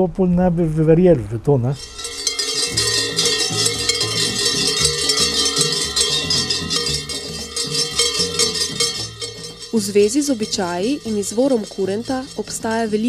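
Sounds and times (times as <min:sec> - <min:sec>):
large cowbells clanging: 0:01.8 - 0:13.0.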